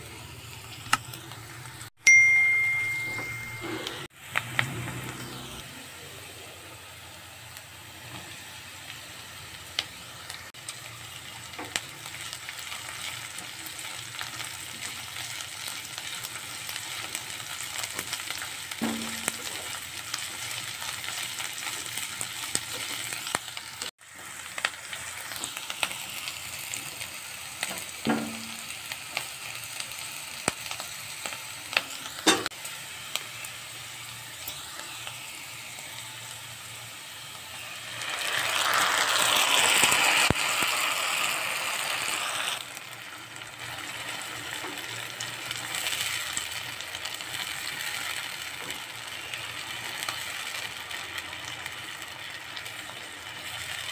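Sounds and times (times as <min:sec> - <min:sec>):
vegetables sizzling in hot oil: 0:00.0 - 0:53.9.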